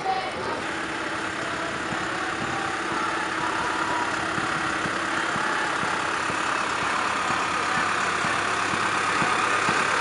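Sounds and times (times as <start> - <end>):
tractor diesel engine at low revs: 0.1 - 10.0.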